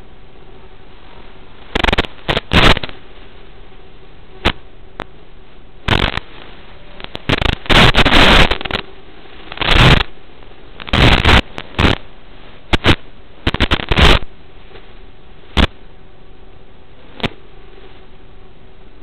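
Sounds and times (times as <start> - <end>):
crackling static bursts: 0.0 - 19.0
video receiver hiss: 0.0 - 19.0.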